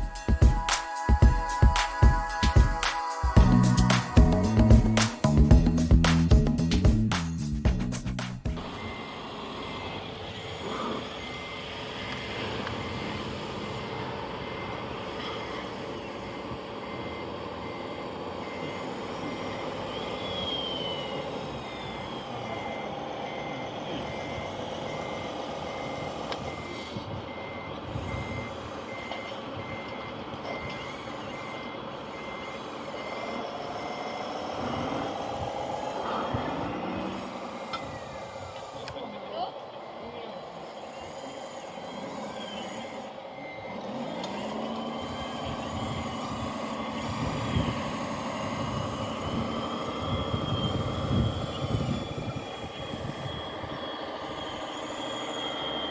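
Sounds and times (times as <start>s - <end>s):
electronic warning beep: 8.6s - 55.9s
small electric motors whining: 8.6s - 55.9s.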